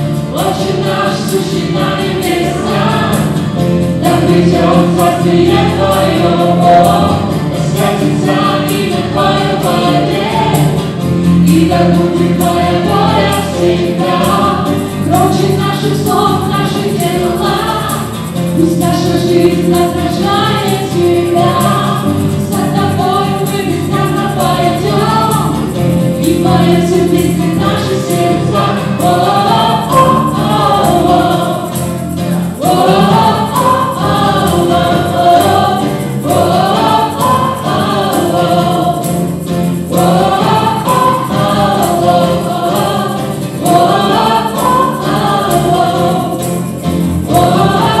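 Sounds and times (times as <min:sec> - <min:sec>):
acoustic guitar: 0:00.0 - 0:48.0
electric bass: 0:00.0 - 0:48.0
keyboard: 0:00.0 - 0:48.0
people singing together: 0:00.0 - 0:48.0.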